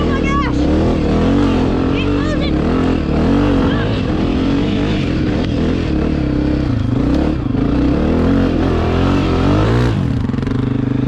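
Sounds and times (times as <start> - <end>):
dirt bike engine running hard: 0.0 - 11.0.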